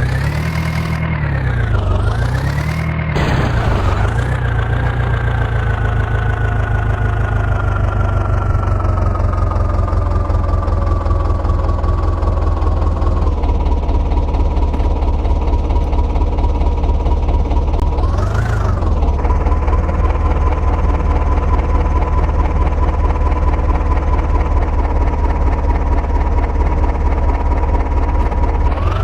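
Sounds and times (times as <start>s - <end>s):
diesel tractor engine running: 0.0s - 29.0s
high engine whine: 0.0s - 29.0s.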